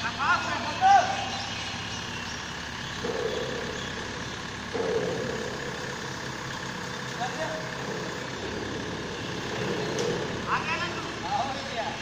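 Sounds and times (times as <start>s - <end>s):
crane engine running: 0.0s - 12.0s.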